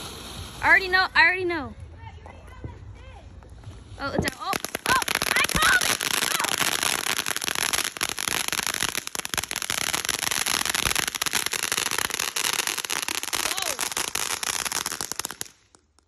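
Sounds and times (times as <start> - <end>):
firework hissing and crackling: 0.0 - 1.2, 3.7 - 16.0.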